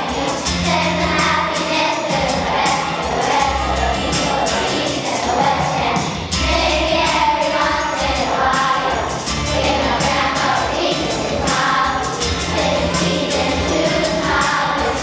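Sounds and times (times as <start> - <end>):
children's choir singing: 0.0 - 15.0
instrumental backing with bass: 0.0 - 15.0.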